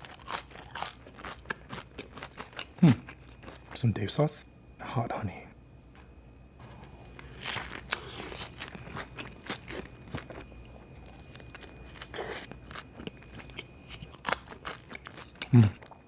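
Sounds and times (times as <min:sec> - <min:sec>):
crunchy chewing of fried food: 0:00.0 - 0:03.9, 0:05.9 - 0:16.0.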